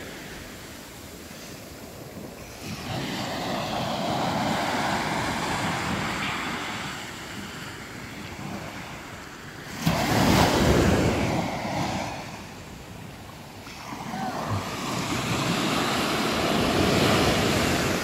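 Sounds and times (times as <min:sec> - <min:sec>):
sea waves washing on beach: 0:00.0 - 0:18.0
wind buffeting microphone: 0:01.1 - 0:18.0.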